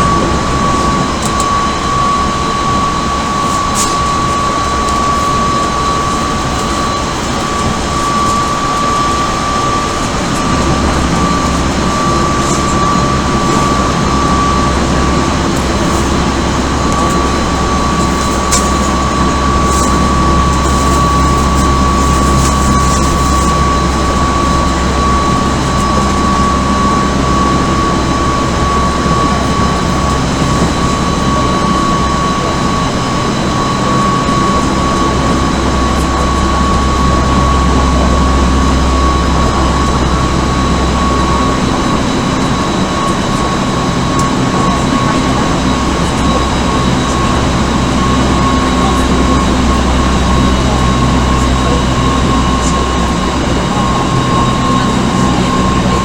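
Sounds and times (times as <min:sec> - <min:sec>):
electric train motor whine: 0:00.0 - 0:56.0
train running rumble: 0:00.0 - 0:56.0.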